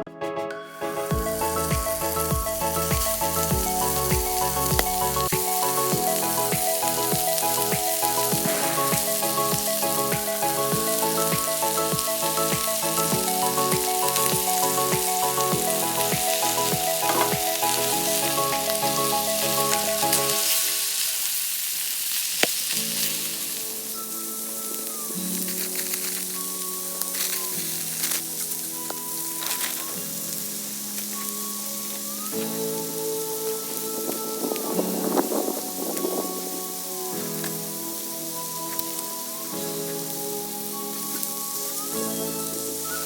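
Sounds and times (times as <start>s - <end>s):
gentle instrumental music: 0.0s - 43.0s
food sizzling in a pan: 1.3s - 43.0s.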